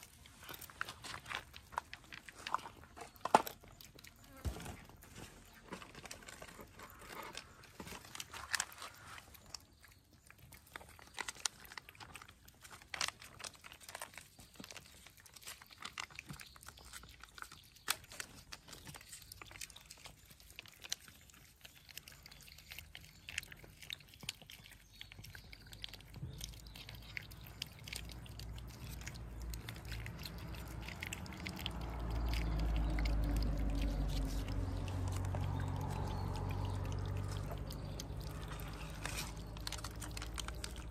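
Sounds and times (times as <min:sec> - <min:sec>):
cats crunching food: 0:00.0 - 0:40.9.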